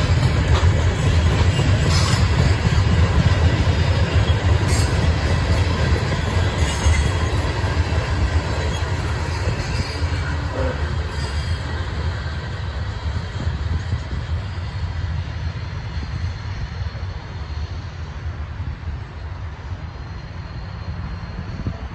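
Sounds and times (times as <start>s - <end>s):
freight train rumbling on rails: 0.0s - 21.9s.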